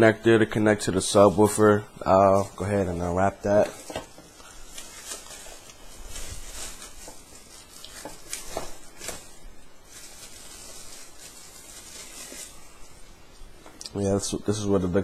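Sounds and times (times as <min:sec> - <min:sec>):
plastic wrapping crinkling: 0:01.1 - 0:14.4.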